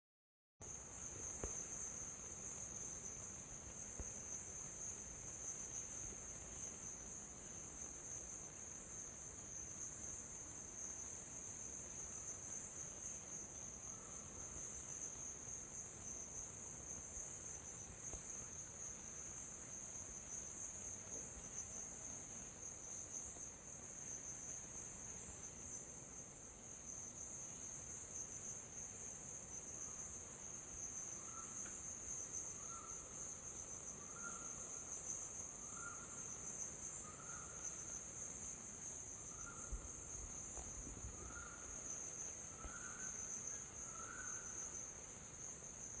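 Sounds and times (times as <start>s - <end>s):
insect chorus buzzing: 0.6s - 46.0s.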